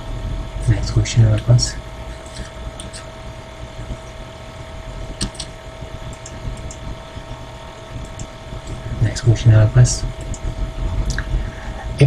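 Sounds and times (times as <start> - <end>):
faint constant tone: 0.0 - 12.0
low background hum and hiss: 0.0 - 12.0.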